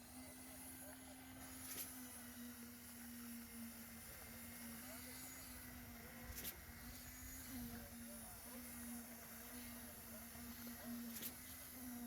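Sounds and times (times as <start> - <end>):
faint voices of workers: 0.0 - 12.0.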